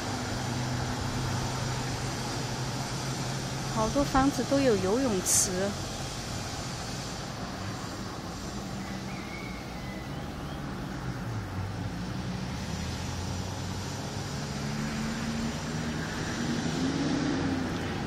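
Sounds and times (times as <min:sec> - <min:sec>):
outdoor town noise: 0:00.0 - 0:18.0
vehicle engine humming: 0:00.0 - 0:18.0.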